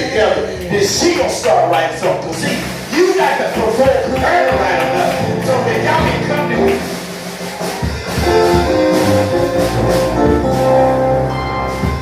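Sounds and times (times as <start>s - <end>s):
band playing held chords: 0.0s - 12.0s
drum hits: 0.6s - 12.0s.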